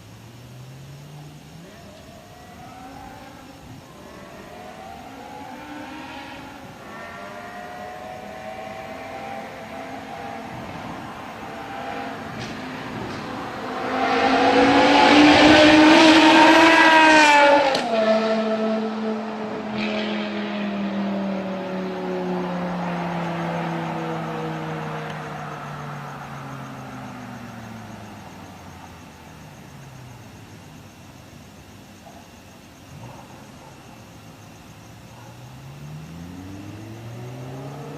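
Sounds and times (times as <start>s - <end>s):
car engine through exhaust: 2.4s - 31.3s, 32.8s - 37.9s.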